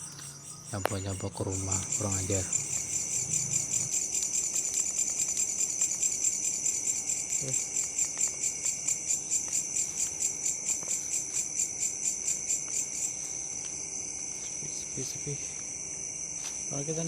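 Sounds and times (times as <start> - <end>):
continuous high insect trill: 0.0 - 17.0
crickets pulsing chirp: 0.0 - 17.0.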